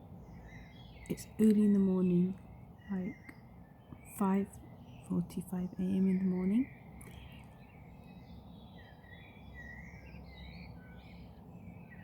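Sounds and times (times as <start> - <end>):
birds chirping and warbling: 0.0 - 12.0.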